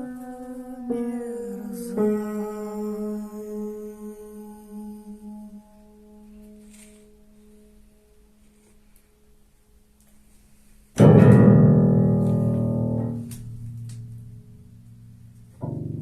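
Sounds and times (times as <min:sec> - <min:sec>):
soft piano notes: 0:00.0 - 0:16.0.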